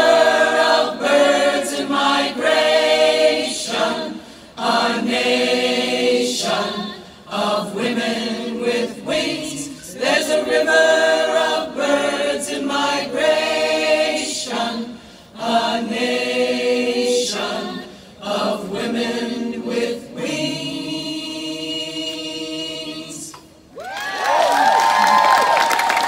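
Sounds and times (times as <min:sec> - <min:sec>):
choir singing a cappella: 0:00.0 - 0:23.5.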